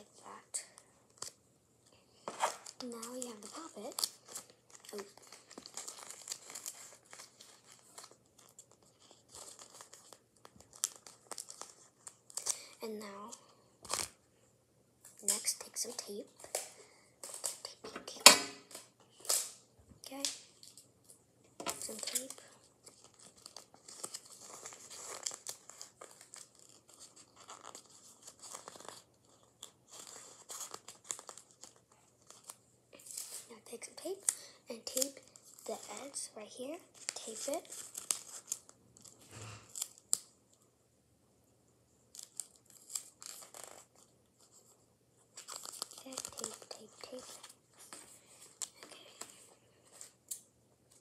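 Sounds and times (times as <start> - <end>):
paper crinkling and crackling: 0.0 - 14.2, 15.1 - 40.6, 42.0 - 51.0.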